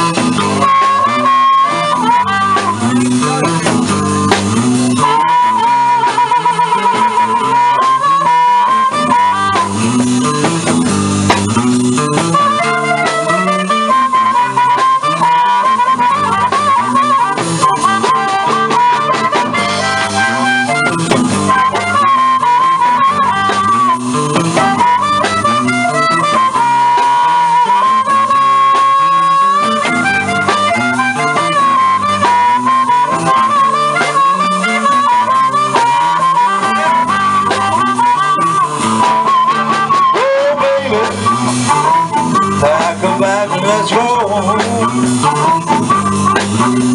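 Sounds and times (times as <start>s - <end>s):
bending harmonica lead: 0.0s - 46.9s
repeating guitar riff: 0.0s - 46.9s.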